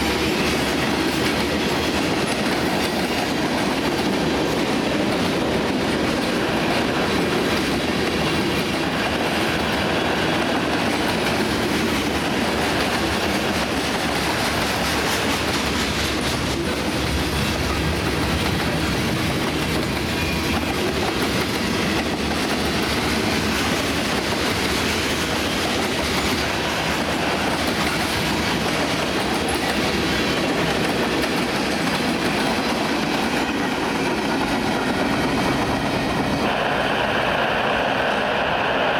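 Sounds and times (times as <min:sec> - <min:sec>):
steel wheels rolling on rail: 0:00.0 - 0:38.9.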